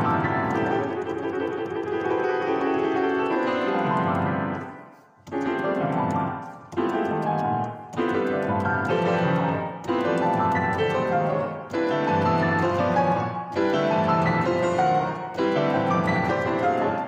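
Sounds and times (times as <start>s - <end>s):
grand piano chords: 0.0s - 17.0s.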